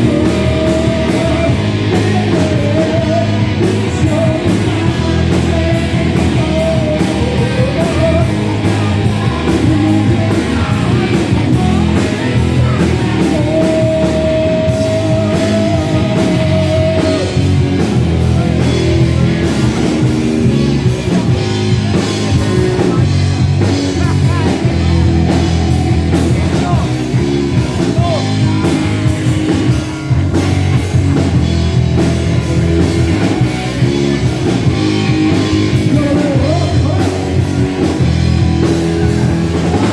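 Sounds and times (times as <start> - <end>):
bass guitar: 0.0 - 39.9
distorted electric guitars: 0.0 - 39.9
drum kit: 0.0 - 39.9
person singing: 0.0 - 39.9.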